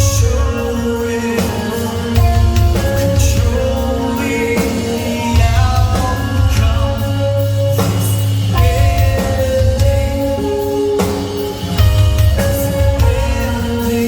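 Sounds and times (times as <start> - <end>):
live rock band playing: 0.0 - 14.0
person singing long notes: 0.0 - 14.0.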